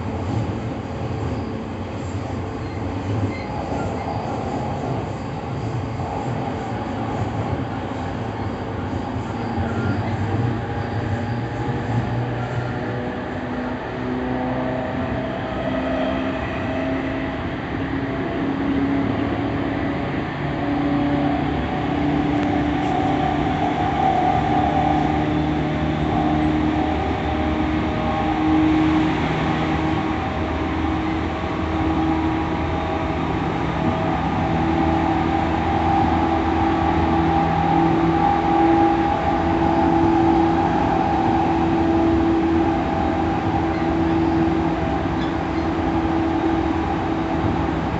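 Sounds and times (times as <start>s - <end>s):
wheel-on-rail rumble: 0.0s - 47.9s.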